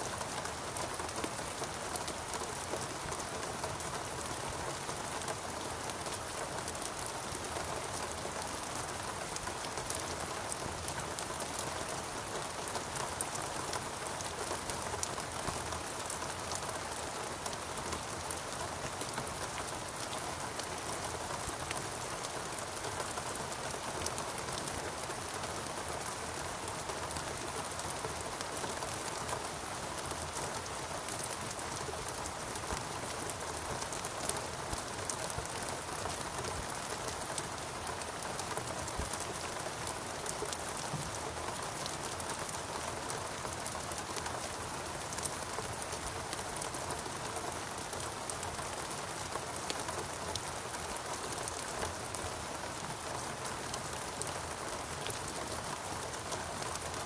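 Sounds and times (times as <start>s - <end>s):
steady rain: 0.0s - 57.0s
raindrops ticking close by: 0.1s - 57.0s.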